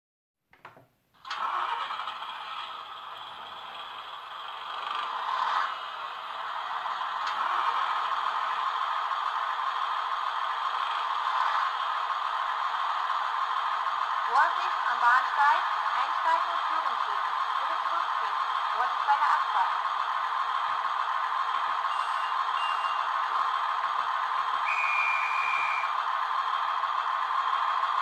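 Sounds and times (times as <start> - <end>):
model train rattling whir: 1.2 - 28.0.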